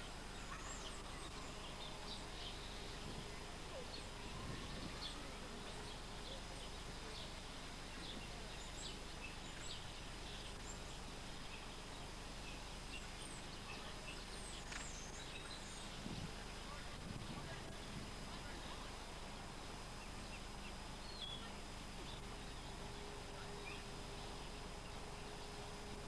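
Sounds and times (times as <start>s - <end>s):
faint outdoor hiss: 0.0s - 26.0s
small birds chirping: 0.0s - 26.0s.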